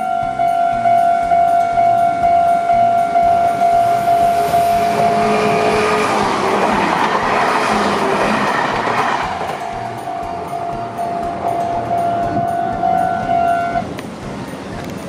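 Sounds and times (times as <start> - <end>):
level crossing bell ringing: 0.0 - 14.7
electric train passing: 0.0 - 15.0.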